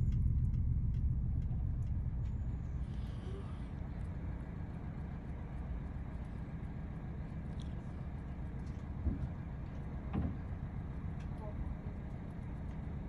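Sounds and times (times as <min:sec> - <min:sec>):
diesel engine thrumming: 0:00.0 - 0:13.0.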